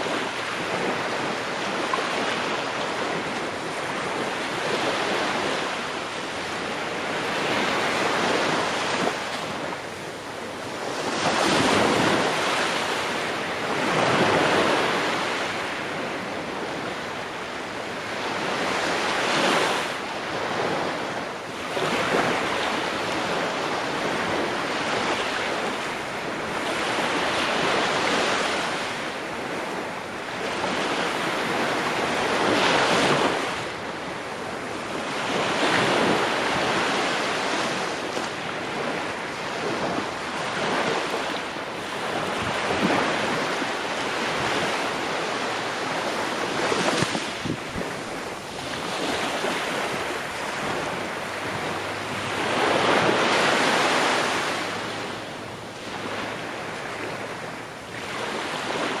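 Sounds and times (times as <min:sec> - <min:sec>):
ocean waves breaking on shore: 0:00.0 - 0:59.0
wind: 0:00.0 - 0:59.0.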